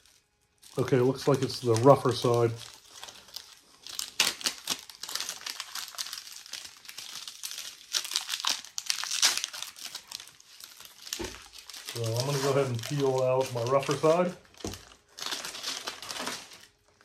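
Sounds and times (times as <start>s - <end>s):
velcro tape crinkling and rasping: 0.0s - 17.0s.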